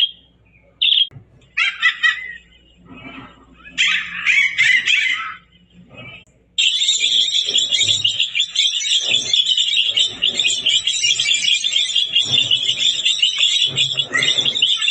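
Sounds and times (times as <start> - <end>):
flock of small birds chirping: 0.0 - 14.9.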